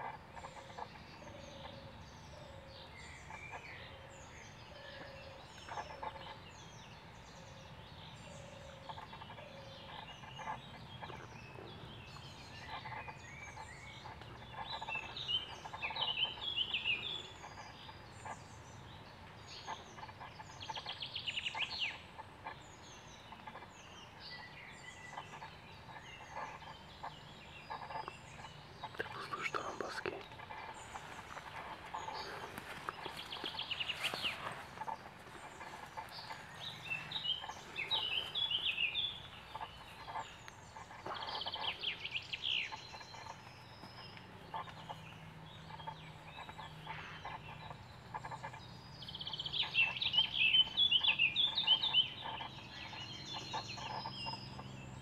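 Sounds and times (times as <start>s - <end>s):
birds singing and calling: 0.0s - 55.0s.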